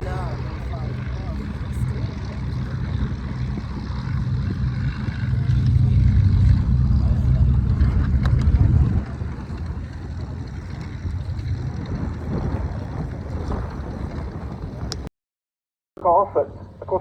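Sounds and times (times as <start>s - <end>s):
propeller aircraft engine taxiing: 0.0s - 15.1s, 16.0s - 17.0s.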